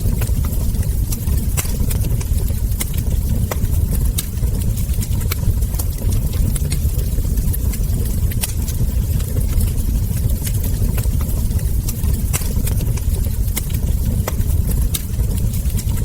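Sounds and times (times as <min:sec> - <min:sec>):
logs crackling and popping: 0:00.0 - 0:16.0
low rumble of flame: 0:00.0 - 0:16.0.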